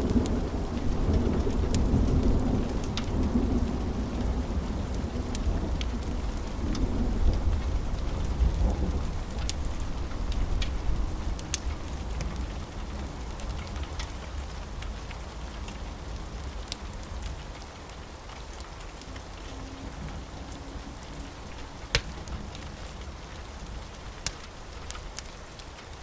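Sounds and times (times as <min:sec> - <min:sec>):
fire crackling and popping: 0:00.0 - 0:26.0
steady rain: 0:00.0 - 0:26.0.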